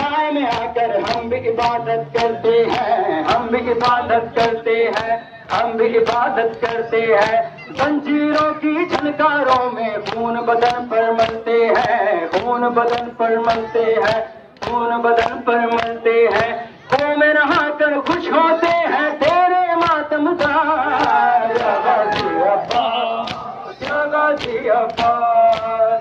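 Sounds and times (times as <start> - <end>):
hands slapping on chests: 0.0 - 25.8
men chanting in unison: 0.0 - 26.0.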